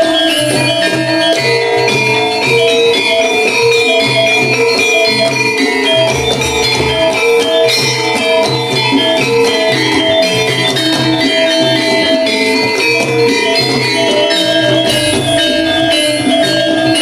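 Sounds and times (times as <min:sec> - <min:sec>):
repeating low drum pattern: 0:00.0 - 0:17.0
ringing metallophone notes: 0:00.0 - 0:17.0.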